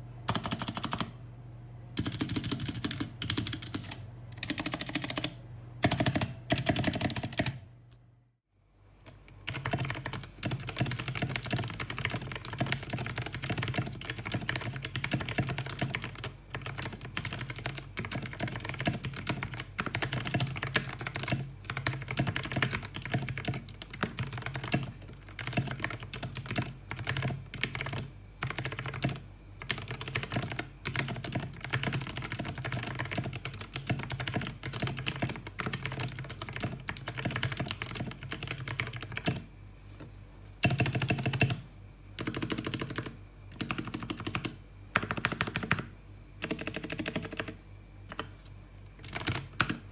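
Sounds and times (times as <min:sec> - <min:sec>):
fast typing on mechanical keyboard: 0:00.3 - 0:01.1, 0:02.0 - 0:07.6, 0:09.4 - 0:39.5, 0:40.6 - 0:41.6, 0:42.2 - 0:48.4, 0:49.0 - 0:49.9.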